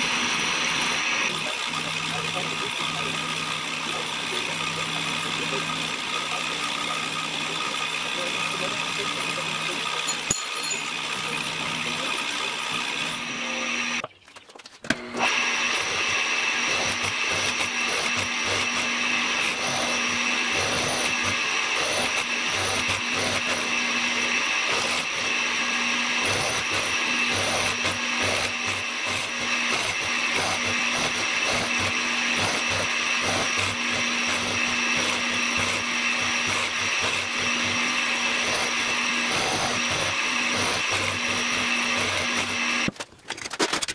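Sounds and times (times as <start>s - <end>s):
milling machine cutting metal: 0.0s - 14.0s, 14.9s - 42.9s.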